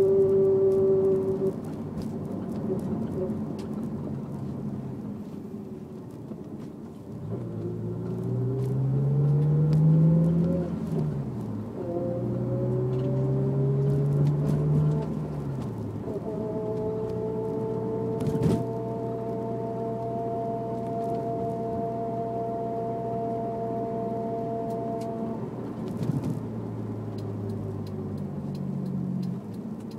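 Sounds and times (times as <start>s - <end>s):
car engine accelerating: 0.0s - 29.9s
drivetrain whine: 0.0s - 29.9s.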